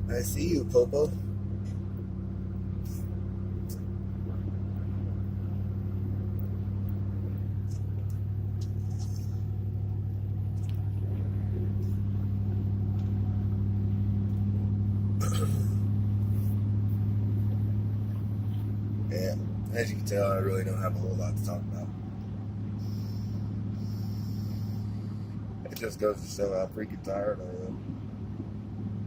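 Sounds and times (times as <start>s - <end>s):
road noise inside cab: 0.0s - 29.0s
truck engine drone: 0.0s - 29.0s.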